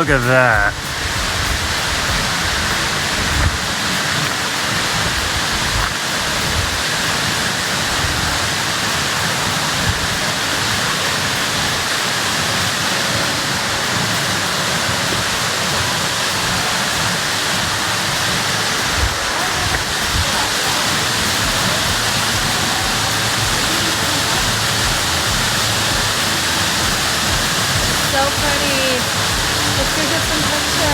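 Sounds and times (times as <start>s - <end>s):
wind on microphone: 0.0s - 13.3s, 13.9s - 30.9s
waterfall rushing: 0.0s - 30.9s.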